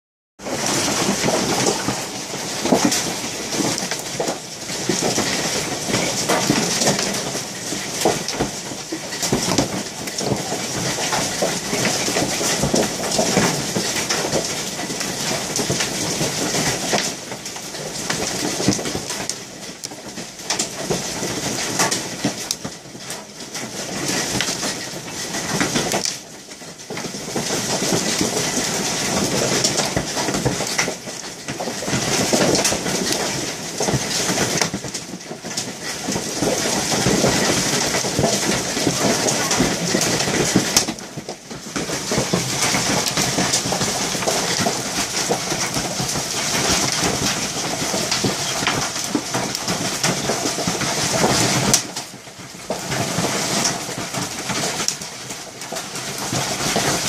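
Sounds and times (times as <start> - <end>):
hailstones pelting window glass: 0.4 - 57.0.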